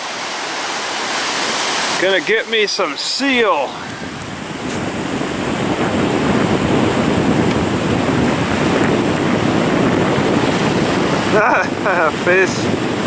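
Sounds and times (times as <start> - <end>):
ocean surf washing ashore: 0.0 - 13.0
wind buffeting microphone: 1.0 - 13.0.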